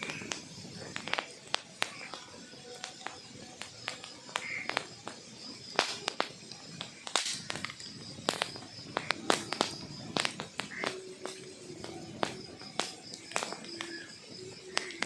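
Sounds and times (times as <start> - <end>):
logs crackling in fireplace: 0.0 - 15.0
low fire hiss: 0.0 - 15.0.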